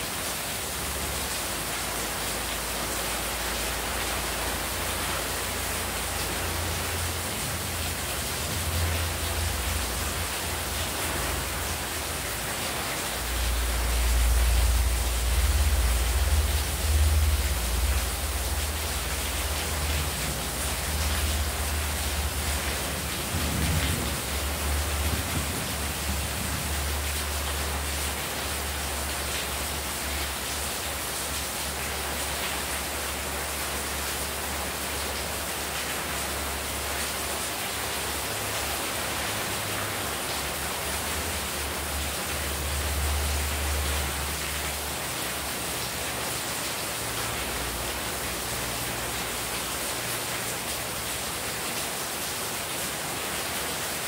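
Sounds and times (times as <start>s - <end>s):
heavy rain falling: 0.0s - 54.0s
water streaming off roof: 0.0s - 54.0s.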